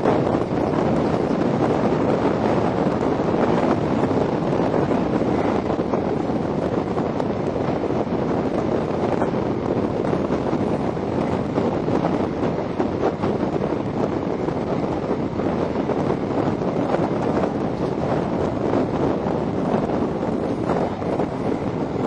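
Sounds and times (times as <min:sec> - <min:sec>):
train wheels on track: 0:00.0 - 0:22.0
wind rushing over microphone: 0:00.0 - 0:22.0.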